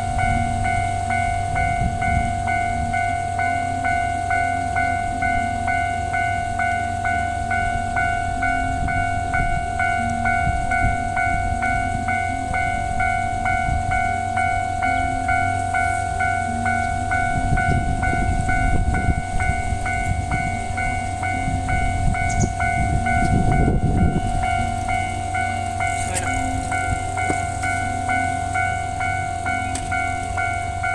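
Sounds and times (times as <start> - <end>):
level crossing warning bell: 0.0 - 30.9
train rumble: 0.0 - 30.9.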